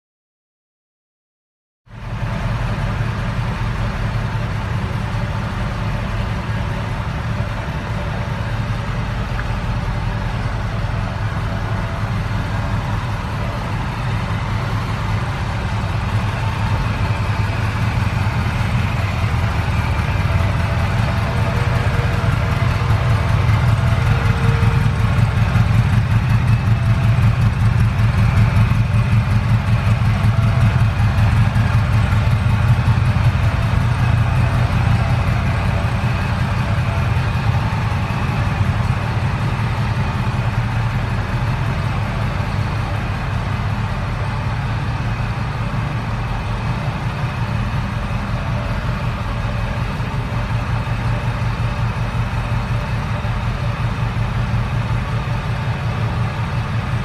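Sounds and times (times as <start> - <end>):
car engine idling: 1.9 - 57.0.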